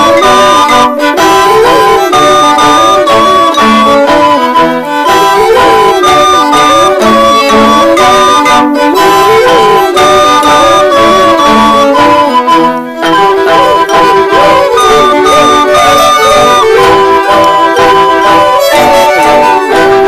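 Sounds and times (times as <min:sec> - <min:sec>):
fiddles and tin whistles dance tune: 0:00.0 - 0:20.0
voices singing melody: 0:00.0 - 0:20.0.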